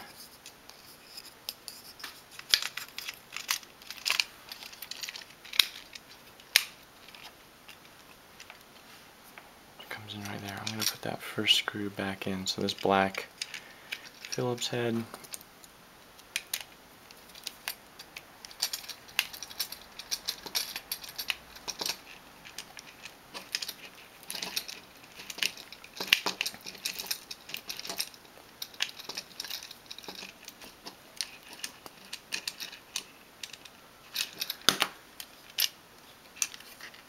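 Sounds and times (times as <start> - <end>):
light clicks and scrapes: 0.0 - 11.2, 16.4 - 37.0.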